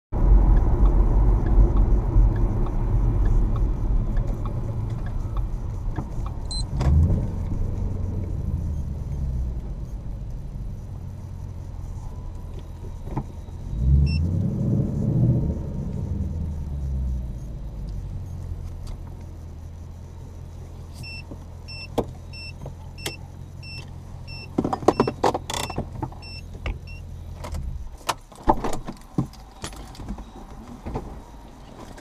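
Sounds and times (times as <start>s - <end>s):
road noise: 0.1s - 32.0s
car engine exhaust: 0.2s - 32.0s.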